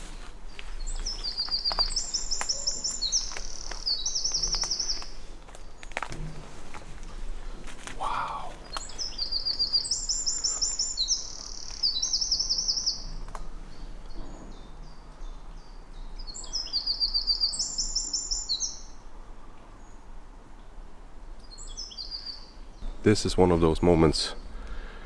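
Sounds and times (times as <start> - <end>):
wren singing rapid trills: 0.0 - 19.0, 21.4 - 24.9.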